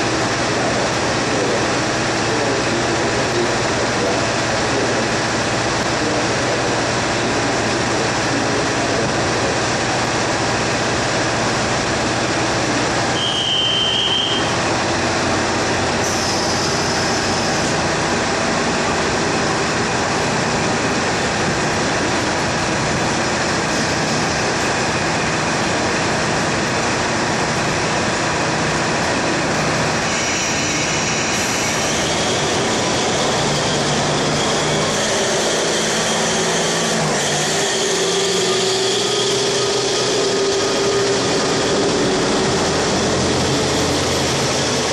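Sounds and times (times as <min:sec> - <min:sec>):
diesel railcar engines droning: 0:00.0 - 0:44.9
train wheels on rail: 0:00.0 - 0:44.9.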